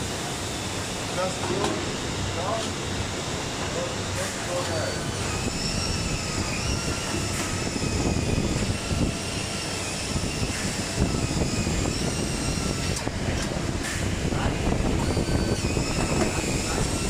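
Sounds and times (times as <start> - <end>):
faint motor whine: 0.0 - 17.0
grinding machine noise: 0.0 - 17.0.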